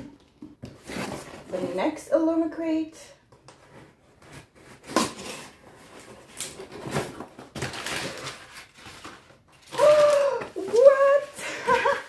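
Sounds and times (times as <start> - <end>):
cardboard box packaging rustling: 0.2 - 2.0, 3.6 - 12.0.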